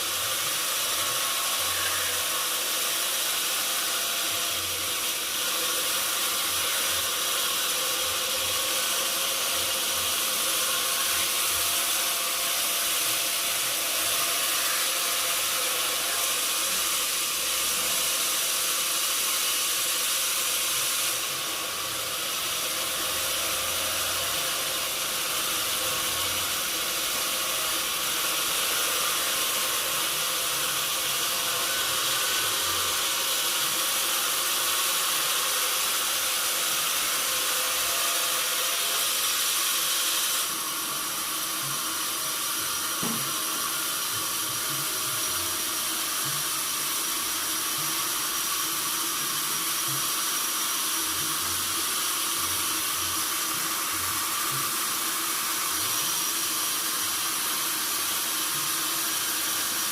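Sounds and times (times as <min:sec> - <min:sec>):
sawmill machinery hiss: 0:00.0 - 0:59.9.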